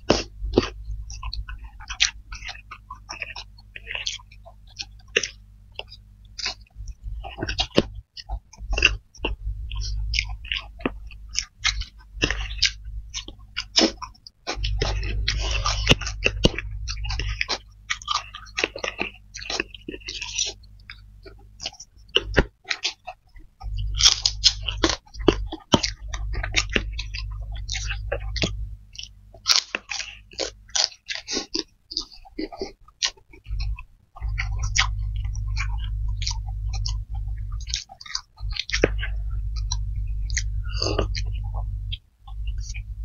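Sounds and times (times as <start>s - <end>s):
low rumble: 0.0s - 22.3s, 23.4s - 29.4s, 33.3s - 43.0s
people chewing noodles: 0.0s - 43.0s
wet mouth clicks and smacks: 0.1s - 42.9s.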